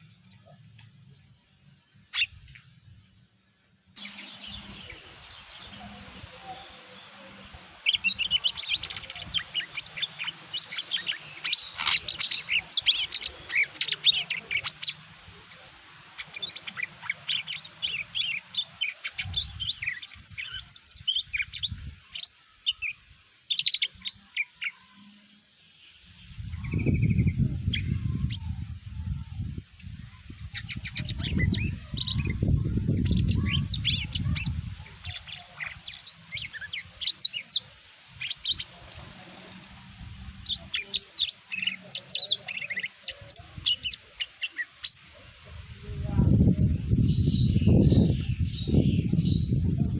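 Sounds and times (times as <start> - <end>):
bird chirping song: 0.0 - 15.0, 16.2 - 45.2, 46.5 - 49.9.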